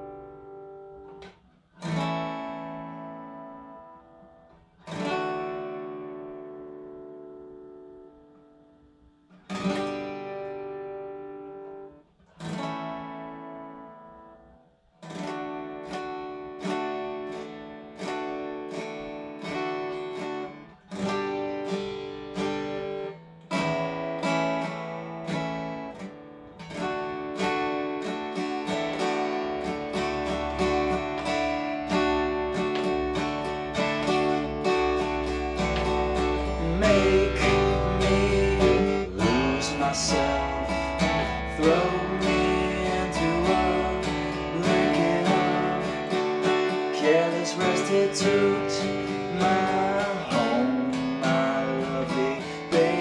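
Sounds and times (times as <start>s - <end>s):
guitar strumming chords: 0.0s - 53.0s.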